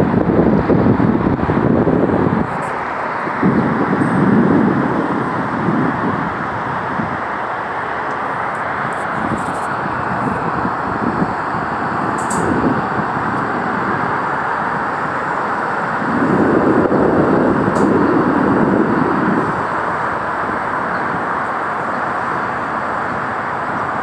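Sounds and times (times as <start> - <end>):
distant city traffic: 0.0 - 24.0.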